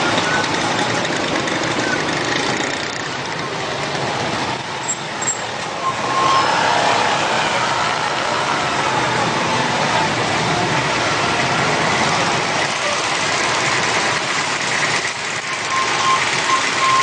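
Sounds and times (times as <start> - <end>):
stop-and-go car engines: 0.0 - 17.0.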